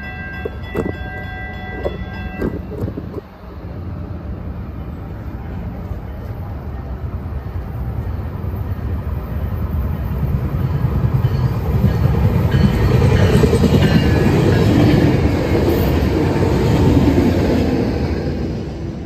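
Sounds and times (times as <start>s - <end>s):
train passing with heavy rumble: 0.0s - 19.0s.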